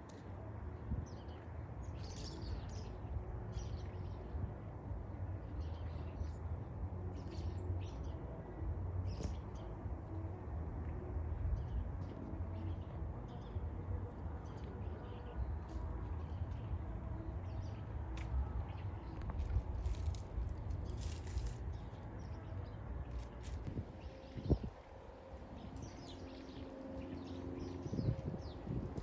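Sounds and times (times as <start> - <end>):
steady low rumble: 2.7 - 29.0.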